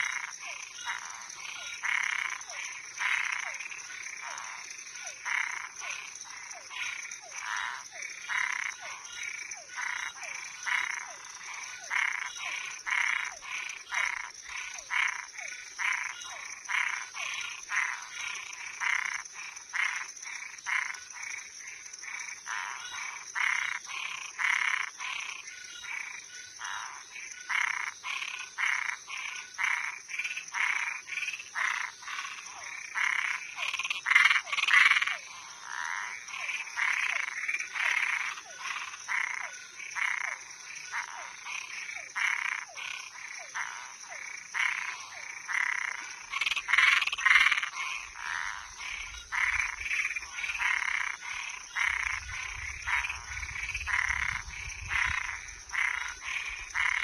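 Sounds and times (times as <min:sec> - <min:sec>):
crickets trilling: 0:00.0 - 0:57.0
frogs calling: 0:00.0 - 0:57.0.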